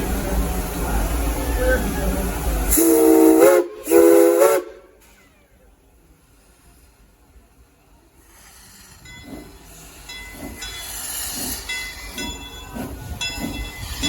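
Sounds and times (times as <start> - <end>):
steam hissing: 0.0 - 14.0
steam locomotive chuffing: 0.0 - 14.0.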